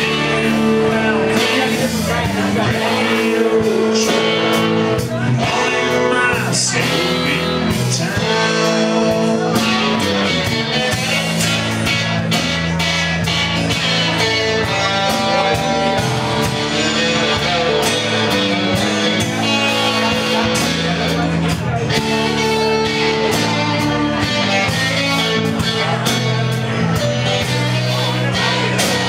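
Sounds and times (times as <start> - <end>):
drum kit beat: 0.0 - 29.0
guitar: 0.0 - 29.0
rock blues band playing: 0.0 - 29.0.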